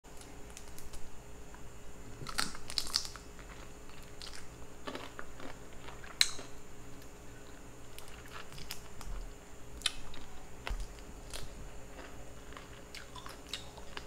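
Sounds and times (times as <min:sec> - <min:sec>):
person chewing crunchy food: 0:02.1 - 0:14.0.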